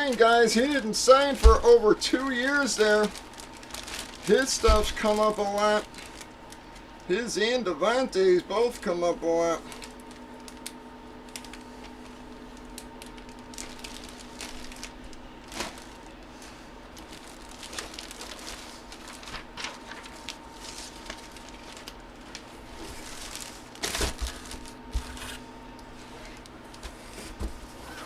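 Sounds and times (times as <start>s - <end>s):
packaging rustle: 0.0s - 7.0s, 9.5s - 28.0s
plastic packaging crinkling: 0.0s - 7.1s, 8.6s - 26.8s
electrical hum: 0.0s - 28.0s.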